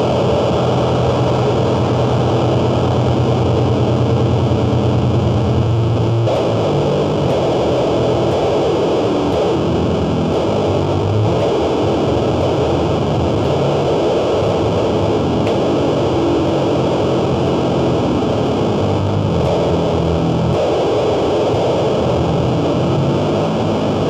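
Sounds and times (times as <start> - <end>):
distorted noise music: 0.0 - 24.0
low droning tones: 0.0 - 24.0.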